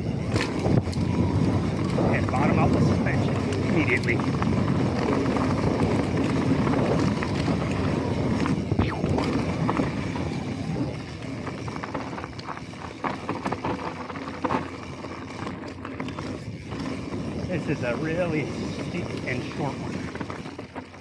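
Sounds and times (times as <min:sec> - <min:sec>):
bike rattling over bumps: 0:00.0 - 0:21.0
bike tyres rushing on dirt: 0:00.0 - 0:21.0.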